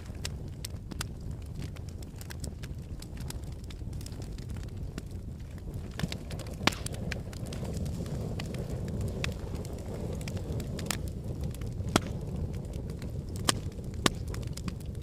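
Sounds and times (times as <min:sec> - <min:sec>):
fire crackling pops: 0:00.0 - 0:15.0
fire flames rumbling: 0:00.0 - 0:15.0.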